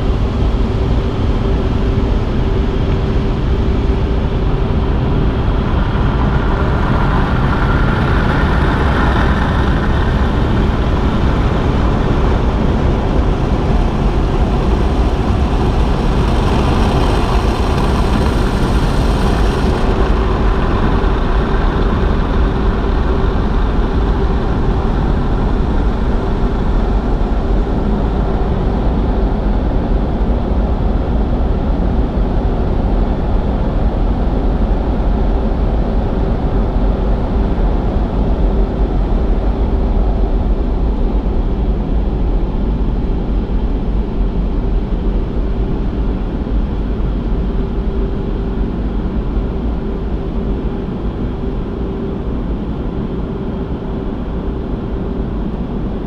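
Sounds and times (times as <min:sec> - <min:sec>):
car wash machinery drone: 0:00.0 - 0:56.0.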